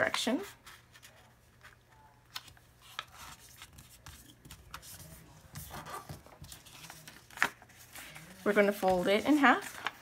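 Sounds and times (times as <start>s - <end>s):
paper rustling and crinkling: 0.0s - 10.0s
paper crackle: 0.7s - 10.0s.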